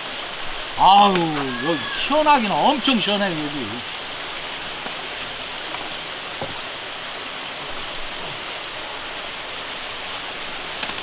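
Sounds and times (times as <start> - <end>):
stream over small waterfall: 0.0 - 11.0.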